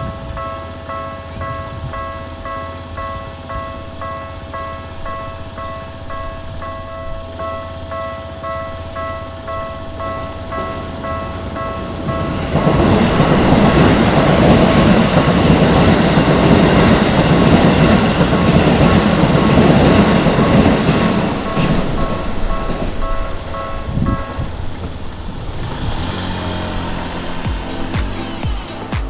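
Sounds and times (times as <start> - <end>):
crossing warning bell dinging: 0.0 - 29.0
train wheels rumbling on rails: 0.0 - 29.0.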